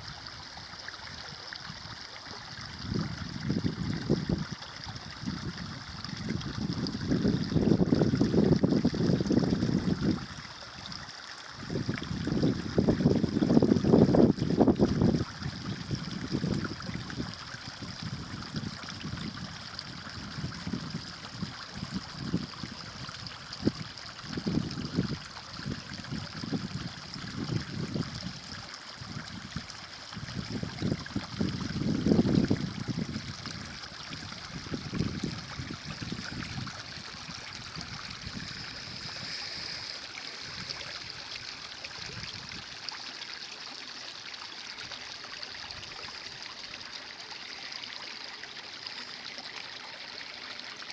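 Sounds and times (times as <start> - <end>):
stream running and gurgling: 0.0 - 50.9.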